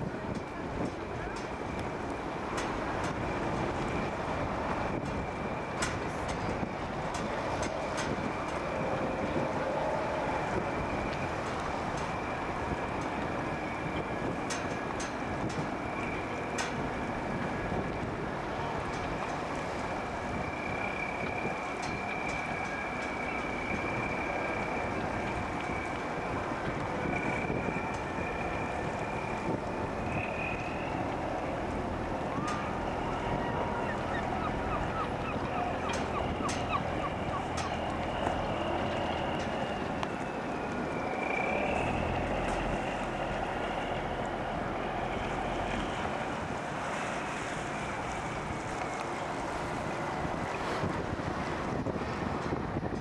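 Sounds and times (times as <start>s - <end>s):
boat engine running: 0.0s - 53.0s
harbour quayside noise: 0.0s - 53.0s
wind buffeting microphone: 0.0s - 53.0s.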